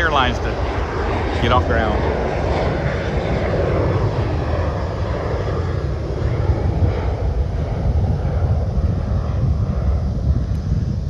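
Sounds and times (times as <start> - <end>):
jet engines at takeoff: 0.0 - 11.0.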